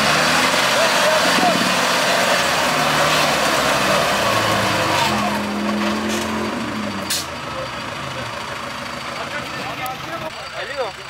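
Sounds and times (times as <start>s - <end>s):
vehicle engine working hard: 0.0s - 11.0s.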